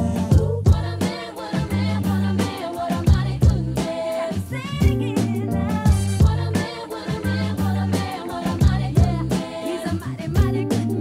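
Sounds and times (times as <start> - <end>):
soul funk music with singing: 0.0 - 11.0.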